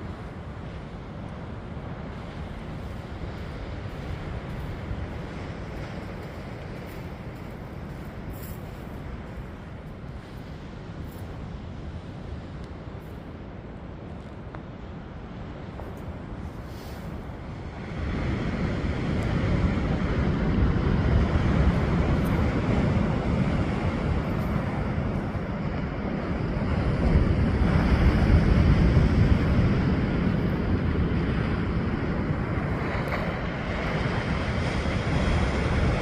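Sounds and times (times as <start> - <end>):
sea waves washing onto beach: 0.0 - 14.0, 14.7 - 36.0
wind rumbling on microphone: 0.0 - 36.0.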